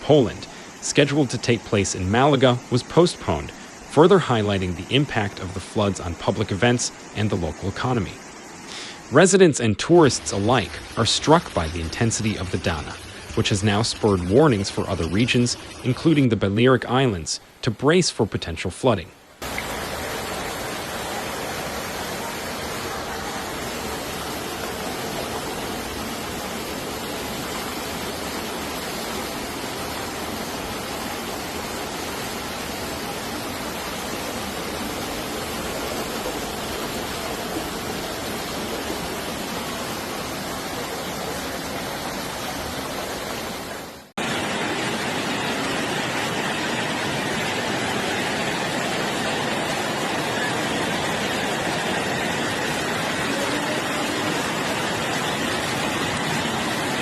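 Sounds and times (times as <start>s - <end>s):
rushing floodwater: 0.0s - 57.0s.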